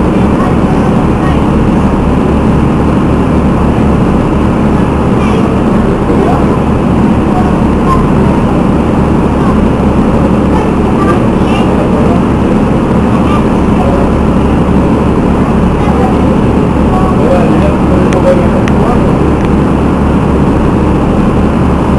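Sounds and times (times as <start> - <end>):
boat engine idling: 0.0 - 21.9.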